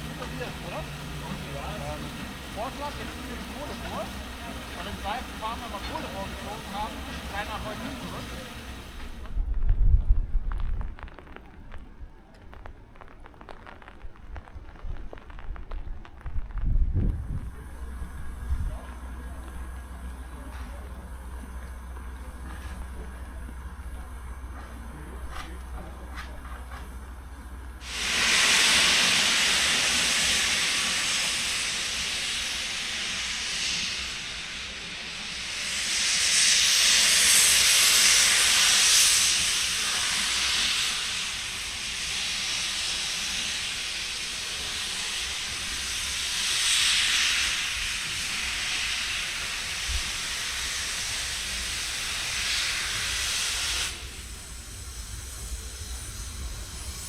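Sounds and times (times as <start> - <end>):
steam locomotive hissing steam: 0.0 - 9.4, 16.3 - 57.0.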